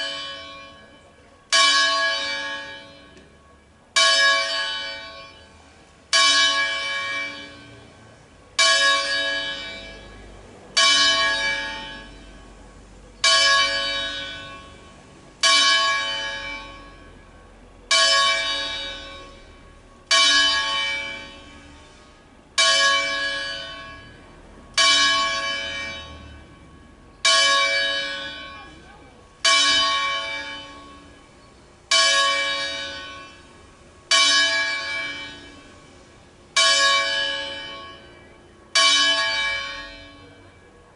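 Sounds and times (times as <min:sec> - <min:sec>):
church bell tolling: 0:00.0 - 0:07.9, 0:08.6 - 0:12.6, 0:13.2 - 0:40.9.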